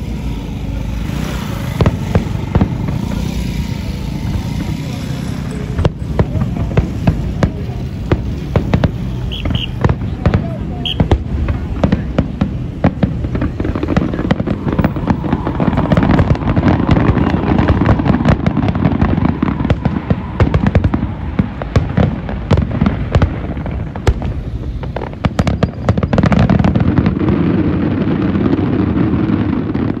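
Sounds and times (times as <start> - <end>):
fireworks crackling pops and bangs: 0.0 - 30.0
steady low rumble: 1.7 - 30.0.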